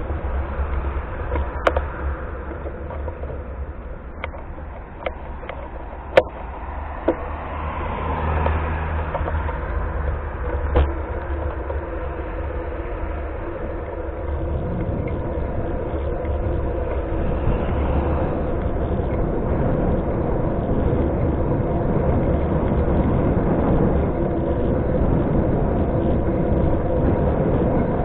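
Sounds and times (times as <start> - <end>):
road rumble: 0.0 - 28.0
wind noise: 0.0 - 28.0.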